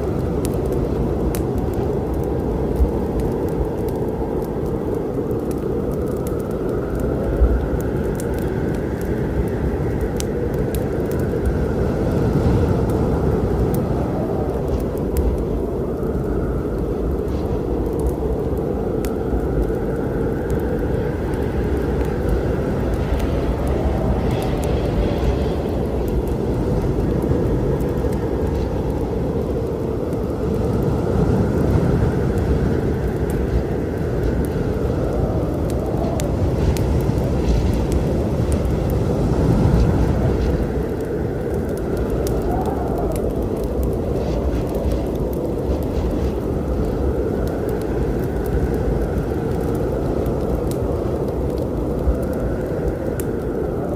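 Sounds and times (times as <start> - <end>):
low storm rumble: 0.0 - 53.9
wood fire crackling and popping: 0.0 - 53.9.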